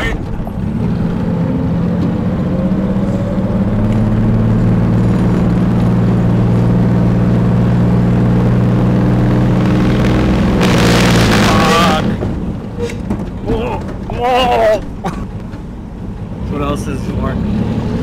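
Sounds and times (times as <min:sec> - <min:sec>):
truck engine from inside cab: 0:00.0 - 0:18.0.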